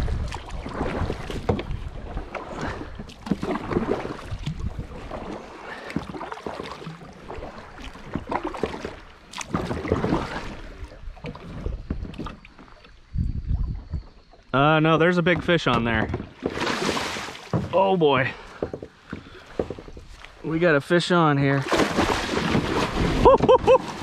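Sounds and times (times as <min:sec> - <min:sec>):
paddle strokes splashing in water: 0:00.0 - 0:13.0, 0:15.2 - 0:20.5, 0:21.6 - 0:24.0.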